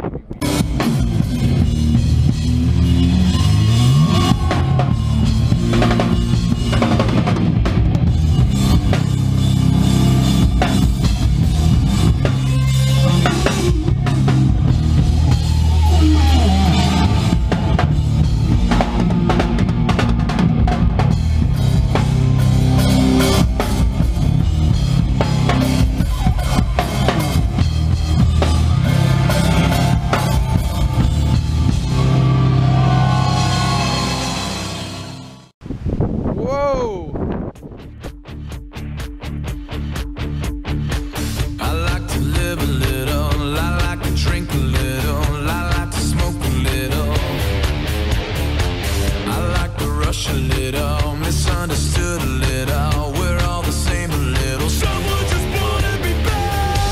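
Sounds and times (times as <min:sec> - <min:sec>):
heavy bass guitar: 0:00.0 - 0:35.5, 0:36.4 - 0:56.9
pounding drum kit: 0:00.1 - 0:35.4, 0:37.5 - 0:56.9
hard rock band playing: 0:00.1 - 0:35.6, 0:37.6 - 0:56.9.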